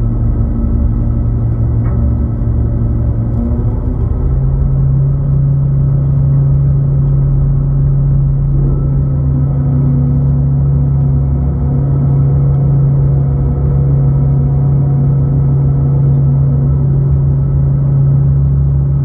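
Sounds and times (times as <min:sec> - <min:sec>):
low hum of ship machinery: 0:00.0 - 0:19.0.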